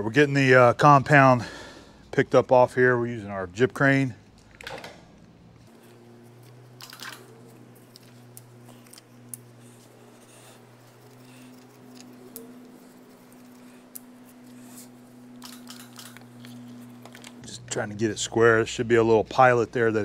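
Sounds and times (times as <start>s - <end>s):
electric hoist humming: 2.9s - 20.0s.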